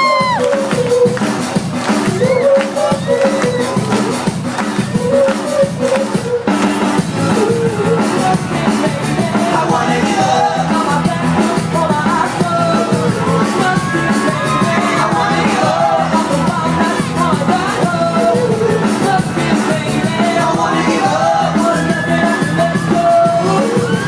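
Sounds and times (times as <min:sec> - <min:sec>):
drum beat: 0:00.0 - 0:24.0
live pop band: 0:00.0 - 0:24.0
person singing: 0:00.0 - 0:24.0.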